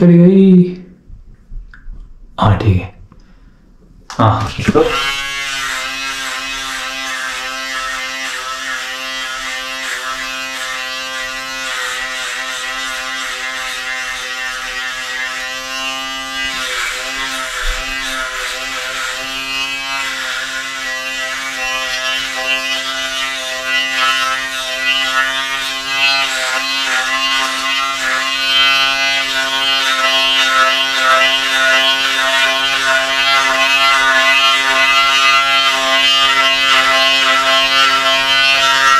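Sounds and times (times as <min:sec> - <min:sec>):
electric shaver buzzing: 0:04.3 - 0:38.9.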